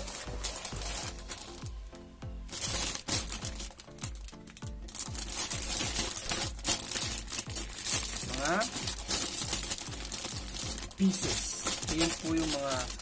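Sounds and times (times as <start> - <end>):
electronic beat music: 0.0 - 13.0
deep kick drums: 0.7 - 12.0.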